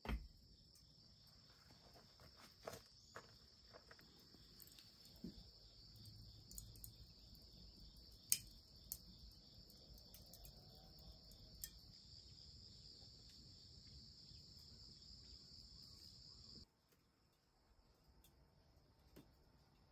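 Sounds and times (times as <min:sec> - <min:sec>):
crickets chirring: 0:00.1 - 0:16.7.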